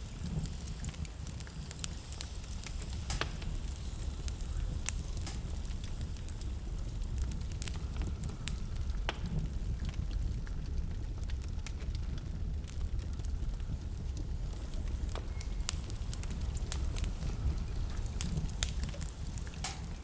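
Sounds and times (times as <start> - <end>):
fire crackling and popping: 0.0 - 20.0
fire flames rumbling: 0.0 - 20.0.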